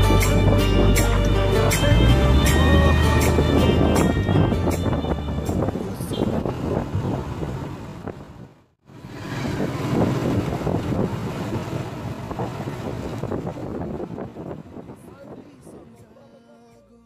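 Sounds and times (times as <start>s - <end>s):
wind on microphone: 0.0s - 16.1s
vehicle road noise: 0.0s - 16.7s.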